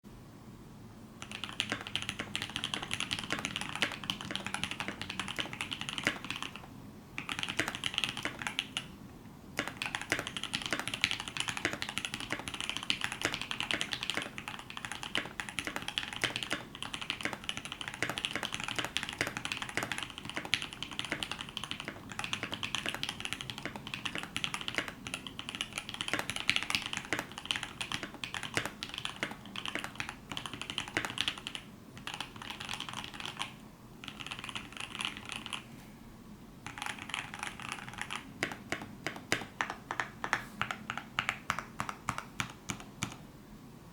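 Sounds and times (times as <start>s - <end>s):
fast typing on mechanical keyboard: 1.2s - 9.0s, 9.6s - 35.6s, 36.6s - 43.2s.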